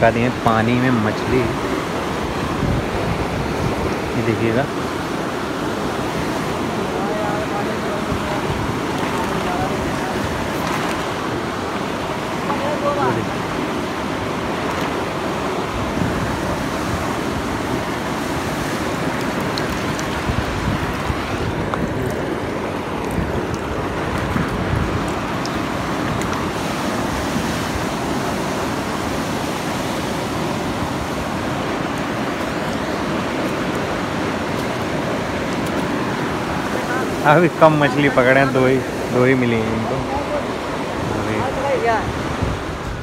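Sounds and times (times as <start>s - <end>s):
water rushing through a dam: 0.0s - 43.0s.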